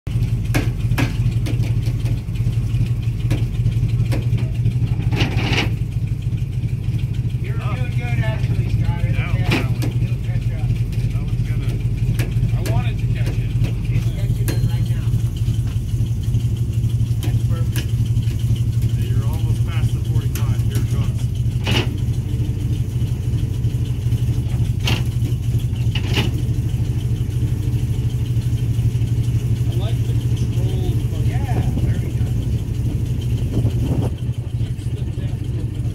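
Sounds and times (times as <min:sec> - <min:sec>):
truck engine idling: 0:00.1 - 0:35.9.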